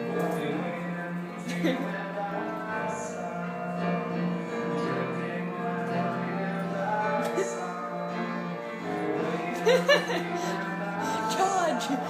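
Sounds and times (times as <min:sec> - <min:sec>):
background song: 0:00.0 - 0:12.0.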